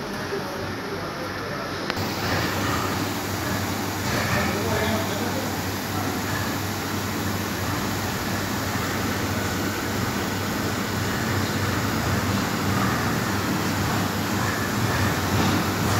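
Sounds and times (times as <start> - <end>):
machinery humming and whirring: 0.0 - 15.9.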